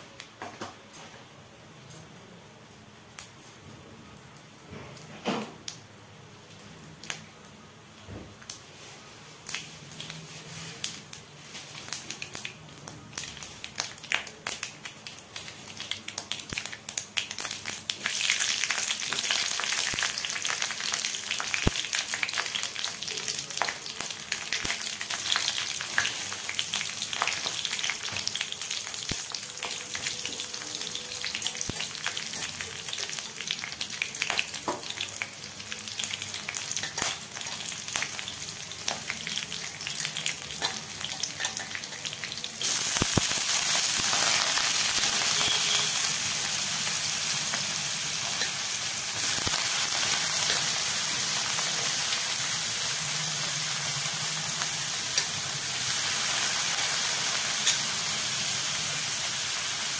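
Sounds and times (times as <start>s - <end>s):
hot oil sizzling and popping: 4.2s - 7.3s, 8.4s - 8.7s, 9.4s - 59.9s.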